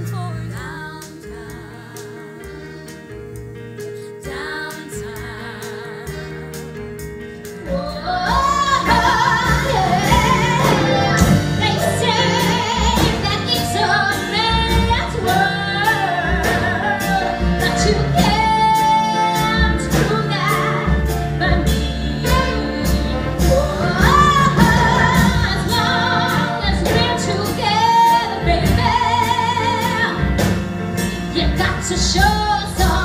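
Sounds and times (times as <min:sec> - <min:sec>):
woman singing: 0:00.0 - 0:02.8, 0:04.1 - 0:06.7, 0:07.6 - 0:30.6, 0:31.3 - 0:33.0
live band playing pop: 0:00.0 - 0:33.0
drums beating: 0:04.9 - 0:33.0.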